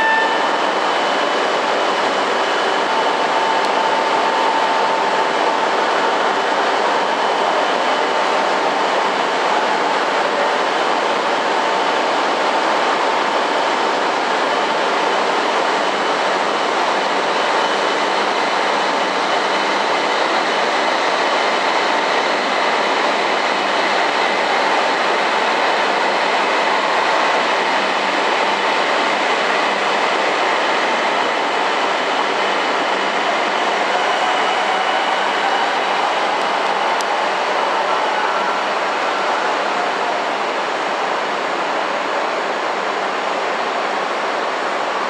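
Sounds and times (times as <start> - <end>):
train whining tones: 0.0 - 45.0.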